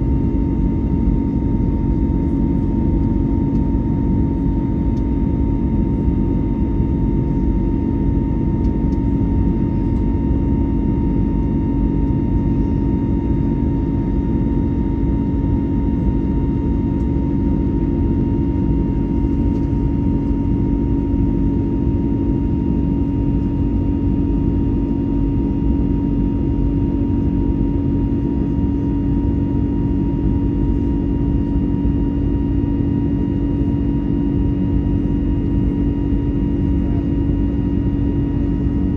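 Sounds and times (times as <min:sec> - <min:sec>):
aircraft cabin airflow and engine noise: 0:00.0 - 0:38.9
low steady hum: 0:00.0 - 0:38.9.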